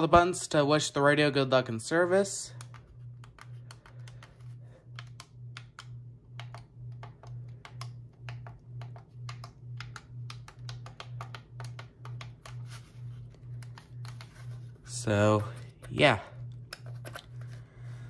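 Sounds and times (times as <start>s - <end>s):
pulsing low hum: 2.4s - 18.0s.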